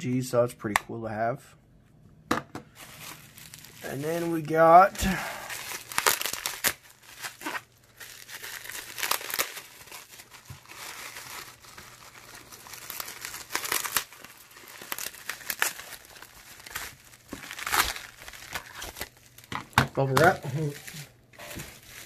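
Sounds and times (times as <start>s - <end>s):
bubble wrap crinkling: 2.7s - 22.0s.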